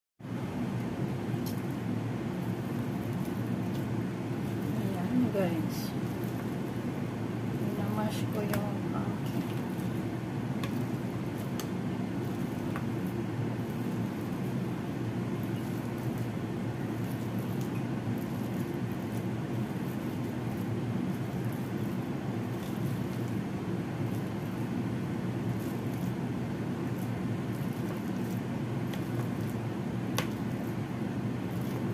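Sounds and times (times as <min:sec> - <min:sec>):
low machine hum: 0:00.2 - 0:31.9.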